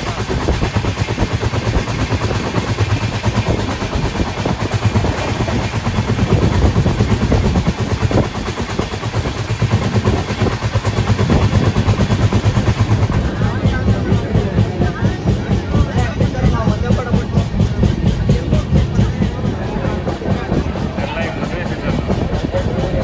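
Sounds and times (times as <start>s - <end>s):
train low rumble: 0.0s - 23.0s
train wheels clattering on rails: 0.0s - 23.0s.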